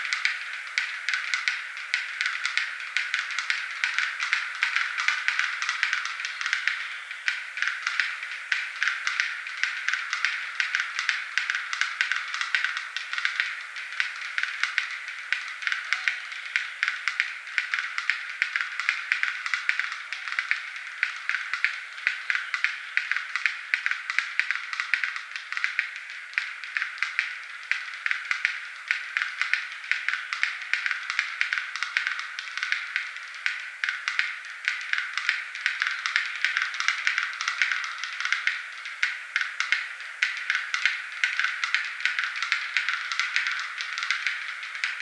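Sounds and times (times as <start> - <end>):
bird display song dry clicks: 0.0 - 45.0.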